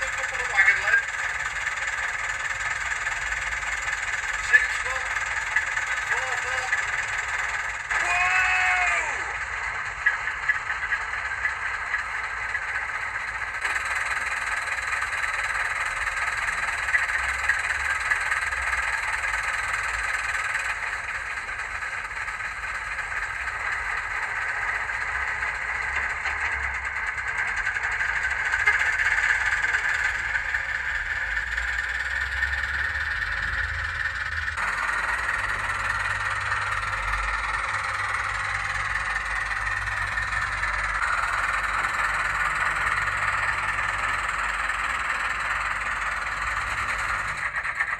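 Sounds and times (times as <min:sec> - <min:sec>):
recorded diesel engine through small speaker: 0:00.0 - 0:47.9.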